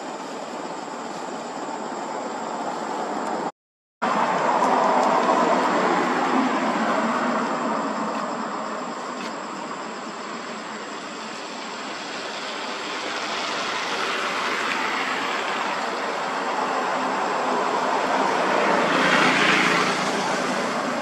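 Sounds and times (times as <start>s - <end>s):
road traffic passing: 0.2s - 21.0s.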